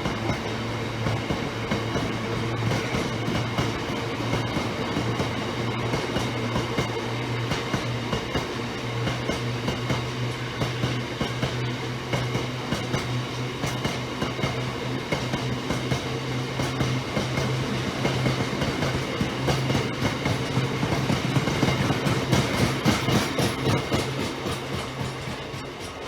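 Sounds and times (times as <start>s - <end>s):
train hum: 0.0s - 26.0s
train wheels clicking over rail joints: 0.0s - 26.0s.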